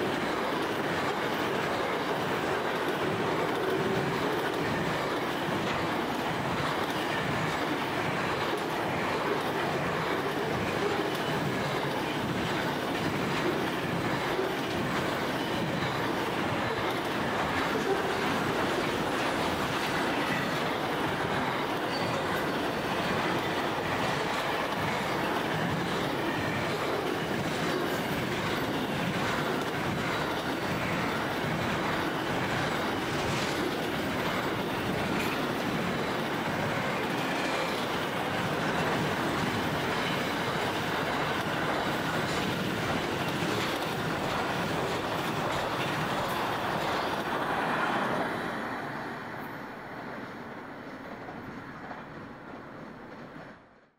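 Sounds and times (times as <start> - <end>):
steel wheels rolling on rail: 0.0 - 53.9.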